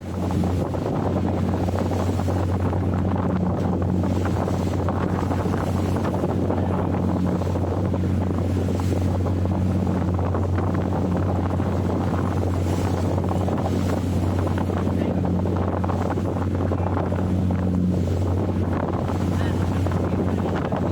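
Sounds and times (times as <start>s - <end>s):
boat engine drone: 0.0s - 20.9s
wind buffeting microphone: 0.0s - 20.9s.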